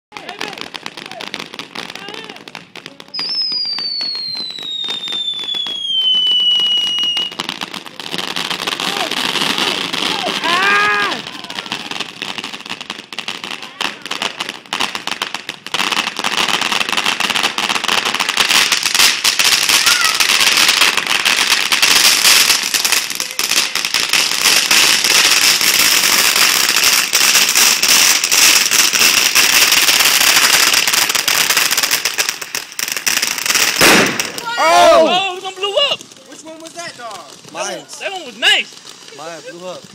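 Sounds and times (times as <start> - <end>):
firework crackling hiss: 0.2 - 39.9.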